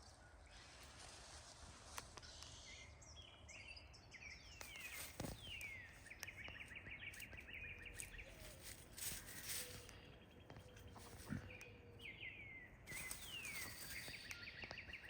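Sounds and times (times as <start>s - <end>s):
songbird whistling and trilling: 2.2s - 15.0s.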